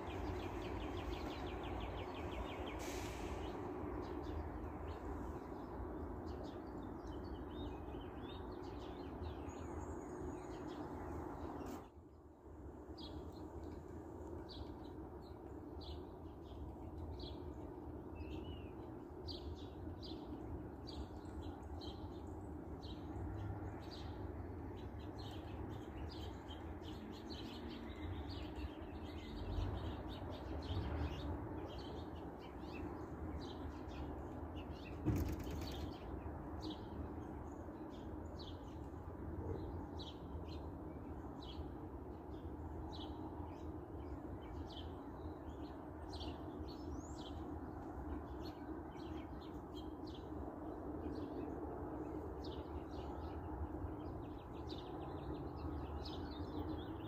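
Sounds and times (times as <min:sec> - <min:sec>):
small birds chirping: 0:00.0 - 0:12.0, 0:12.7 - 0:57.0.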